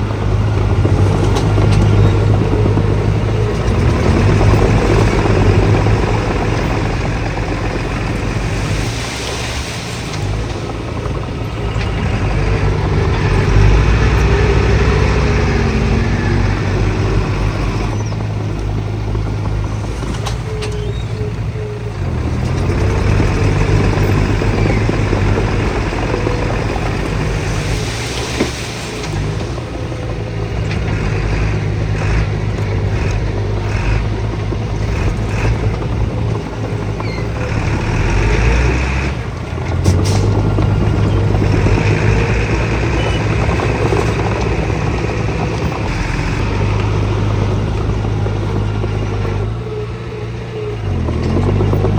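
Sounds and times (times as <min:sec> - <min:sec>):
heavy machinery diesel engines: 0:00.0 - 0:51.9.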